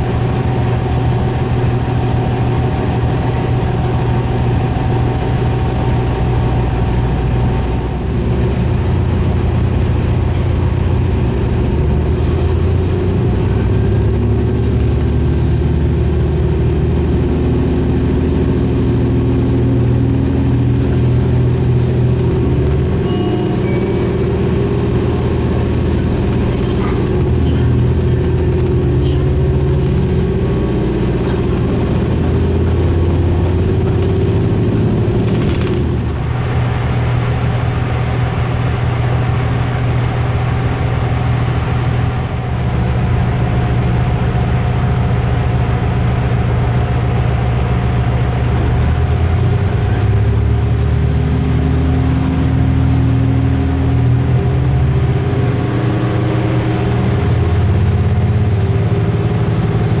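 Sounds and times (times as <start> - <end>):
diesel railcar engine drone: 0.0 - 60.0.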